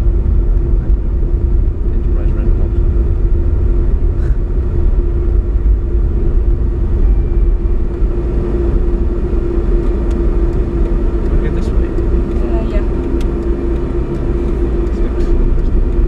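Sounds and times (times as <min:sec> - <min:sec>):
car engine rumble: 0:00.0 - 0:16.0
constant hum: 0:00.0 - 0:16.0
tyres on road: 0:00.0 - 0:16.0.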